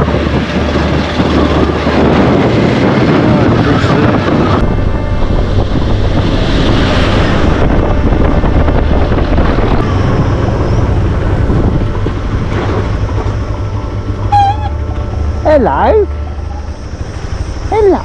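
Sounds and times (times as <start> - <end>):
motorcycle engine droning: 0.0 - 18.0
wind buffeting microphone: 0.0 - 18.0.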